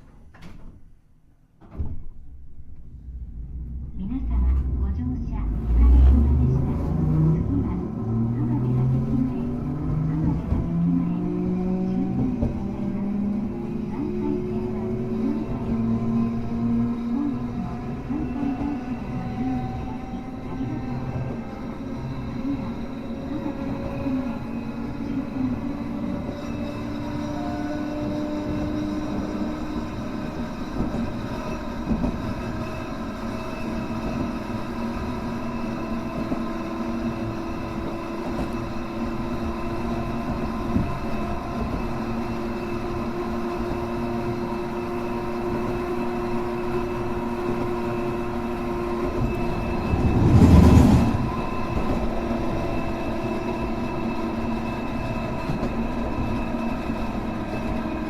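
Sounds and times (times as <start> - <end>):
tram motor hum: 2.3 - 58.0.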